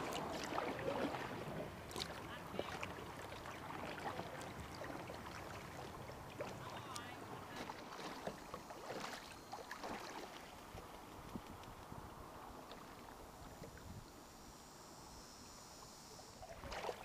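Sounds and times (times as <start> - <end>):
paddle splashing water: 0.0 - 14.0, 16.4 - 17.0.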